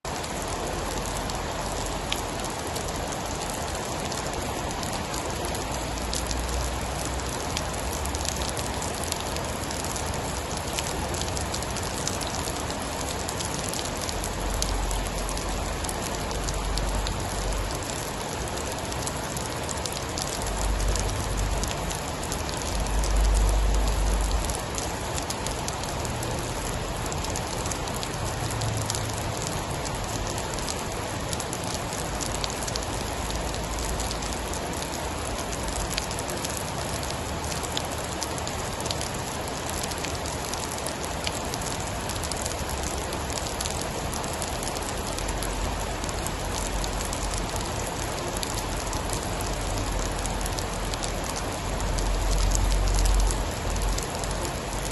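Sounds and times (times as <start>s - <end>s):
heavy rain pattering: 0.0s - 54.9s.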